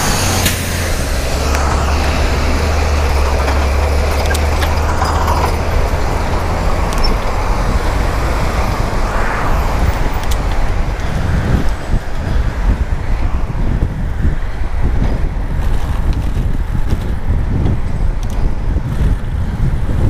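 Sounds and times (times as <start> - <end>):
passing road traffic: 0.0 - 20.0
wind rumbling on microphone: 0.0 - 20.0.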